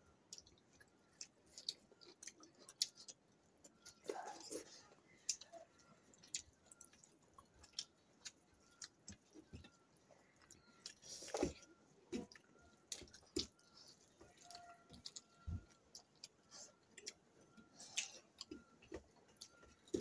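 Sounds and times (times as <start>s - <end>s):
chewing and lip smacks: 0.2s - 20.0s.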